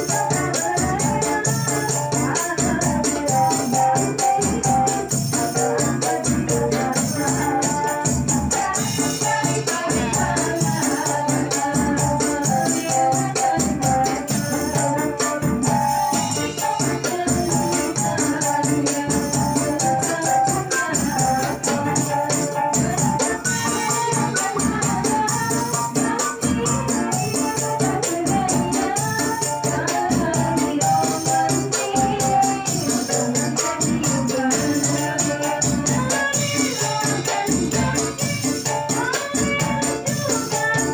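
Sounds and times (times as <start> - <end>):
electronic keyboard: 0.0 - 40.9
hand percussion beat: 0.0 - 40.9
women singing into microphones: 0.0 - 40.9.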